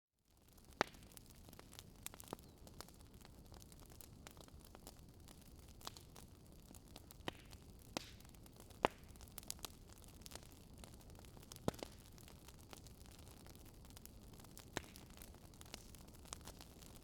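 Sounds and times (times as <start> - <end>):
wood fire crackling: 0.3 - 17.0.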